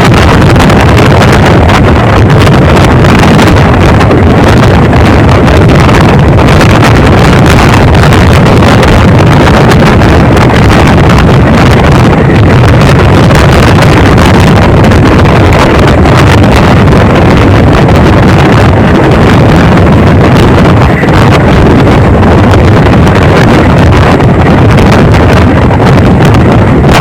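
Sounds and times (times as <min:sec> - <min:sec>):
train rumbling at speed: 0:00.0 - 0:27.0
wind buffeting microphone: 0:00.0 - 0:27.0.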